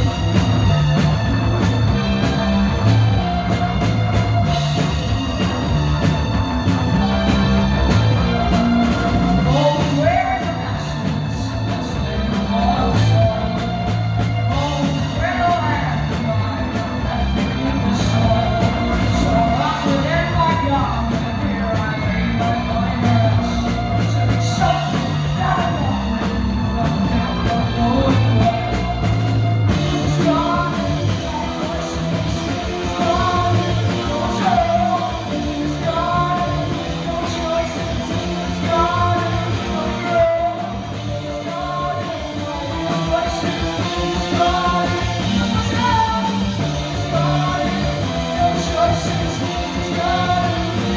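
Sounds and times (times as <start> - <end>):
live band playing: 0.0 - 50.9
person singing: 0.0 - 50.9.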